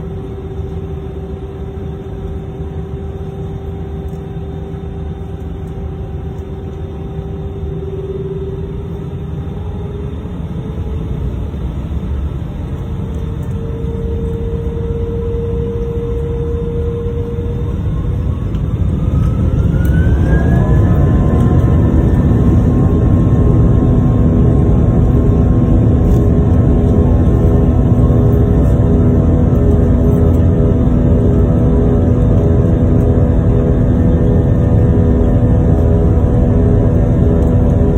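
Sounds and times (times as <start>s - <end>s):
jet engines spooling up: 0.0s - 37.9s
heavy rumble: 5.2s - 37.9s.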